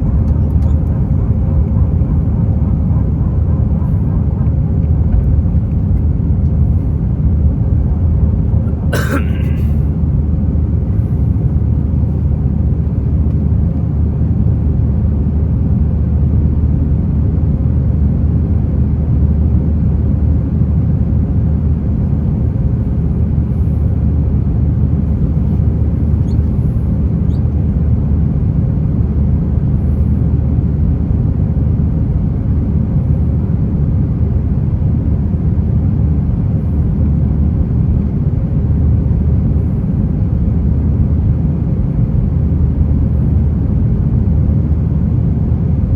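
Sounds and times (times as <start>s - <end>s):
jet engine cabin rumble: 0.0s - 45.9s.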